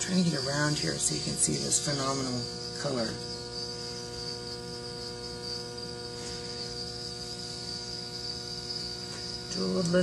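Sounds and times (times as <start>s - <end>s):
crickets chirping: 0.0s - 10.0s
low electrical hum: 0.0s - 10.0s.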